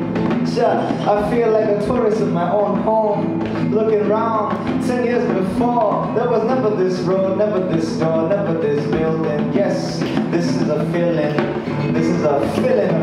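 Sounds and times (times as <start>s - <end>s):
acoustic guitar: 0.0s - 13.0s
hand drum: 0.0s - 13.0s.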